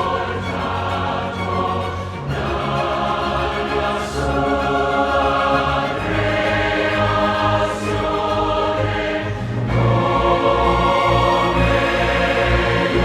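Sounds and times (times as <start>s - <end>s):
choir singing sustained chords: 0.0s - 13.0s.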